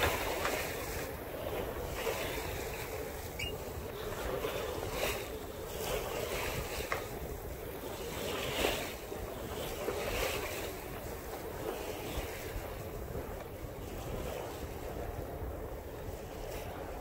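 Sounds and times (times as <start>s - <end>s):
water splashing along boat hull: 0.0s - 17.0s
wind buffeting microphone: 0.0s - 17.0s.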